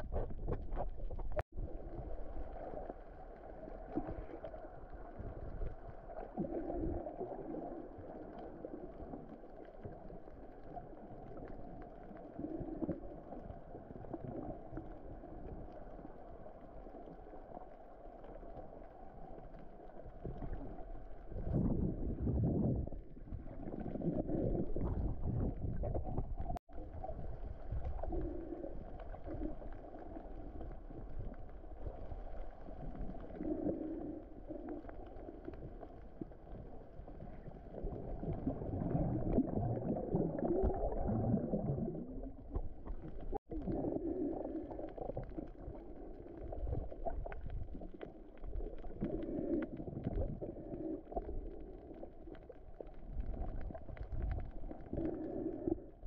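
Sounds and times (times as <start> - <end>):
low underwater rumble: 0.0 - 56.0
muffled underwater water rush: 0.0 - 56.0.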